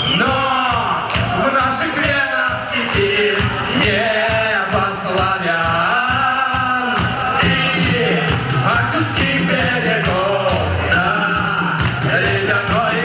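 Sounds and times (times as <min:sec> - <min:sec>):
steady drum beat: 0:00.0 - 0:13.0
band playing a song: 0:00.2 - 0:13.0
person singing: 0:00.2 - 0:13.0.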